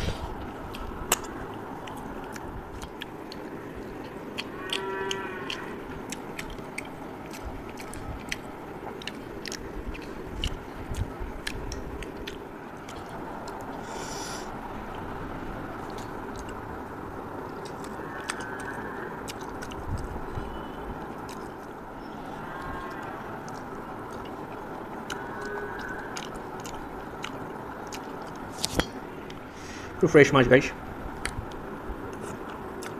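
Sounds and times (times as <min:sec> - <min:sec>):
man chewing with lip smacks: 0:00.3 - 0:15.1, 0:15.8 - 0:29.5, 0:31.1 - 0:32.9.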